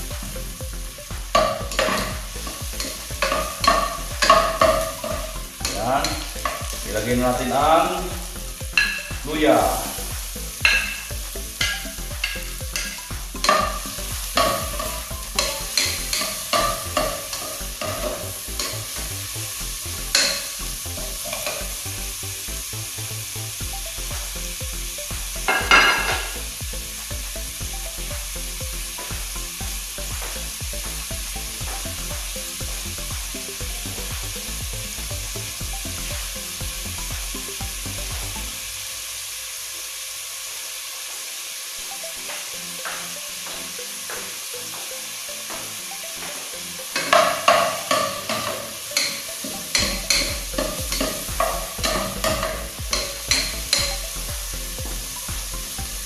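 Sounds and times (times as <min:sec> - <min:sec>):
ginger and garlic sizzling in oil: 0:00.3 - 0:56.0.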